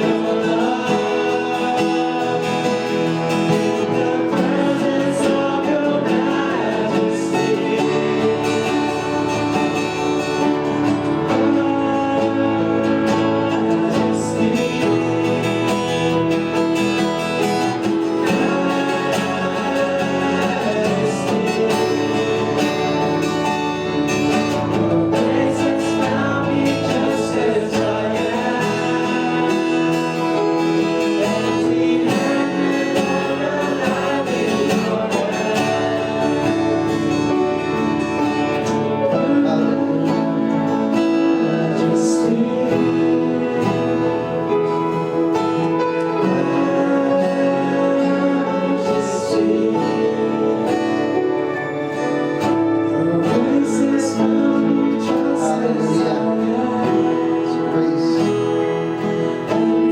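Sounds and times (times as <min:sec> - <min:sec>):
band with guitar playing: 0:00.0 - 0:59.9
people singing: 0:00.0 - 0:59.9.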